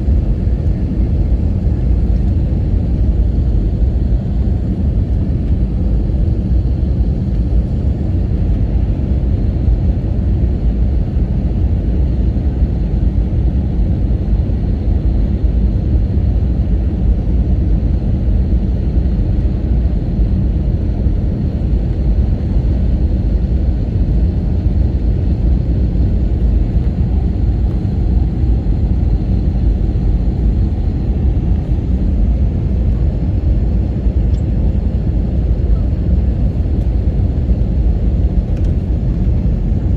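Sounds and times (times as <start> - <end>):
cabin engine rumble: 0.0 - 39.9.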